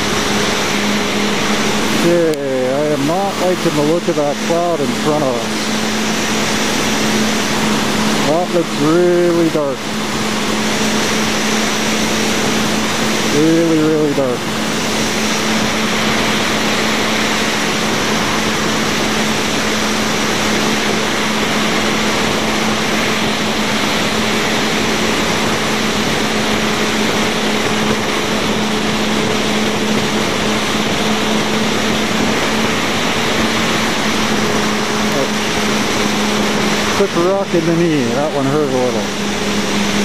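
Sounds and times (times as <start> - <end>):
motorcycle engine cruising: 0.0 - 40.0
wind rushing: 0.0 - 40.0.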